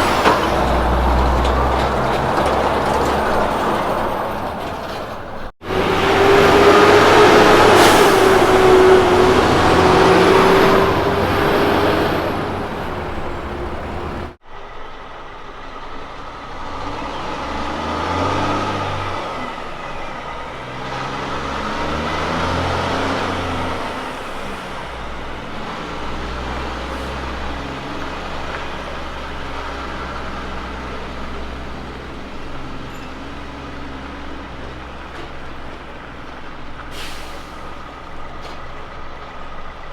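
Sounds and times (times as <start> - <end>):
truck engine pulling away: 0.0 - 39.9
truck passing with whine: 0.0 - 39.9.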